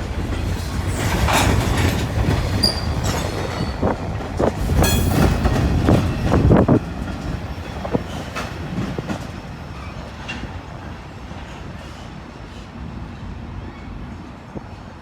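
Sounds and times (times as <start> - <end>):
freight train wheels clattering: 0.0 - 12.8.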